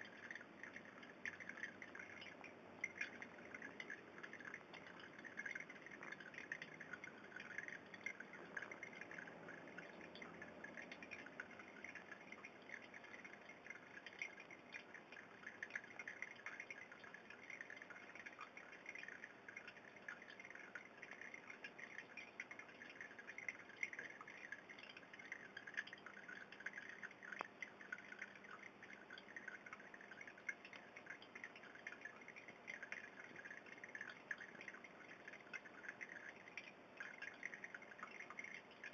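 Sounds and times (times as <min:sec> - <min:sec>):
aquarium water trickling and bubbling: 0:00.0 - 0:38.9.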